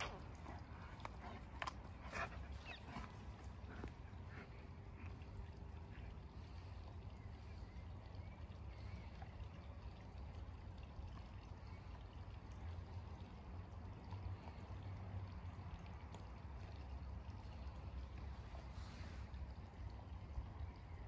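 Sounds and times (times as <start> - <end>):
waterfall trickling and splashing: 0.0 - 21.0.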